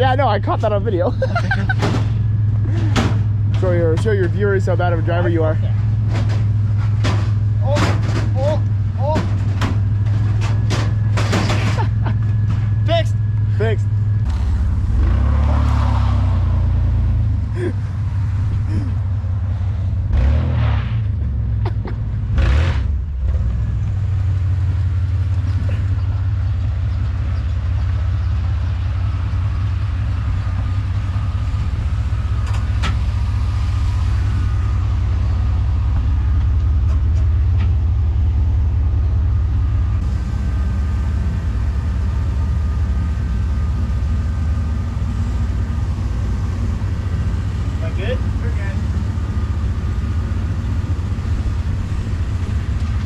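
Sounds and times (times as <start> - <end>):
pickup truck engine idling: 0.0 - 15.1, 23.1 - 53.0.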